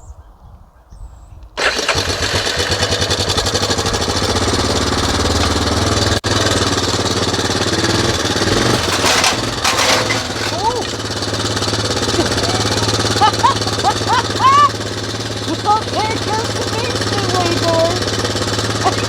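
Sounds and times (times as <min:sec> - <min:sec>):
vehicle engine running: 0:01.6 - 0:19.0.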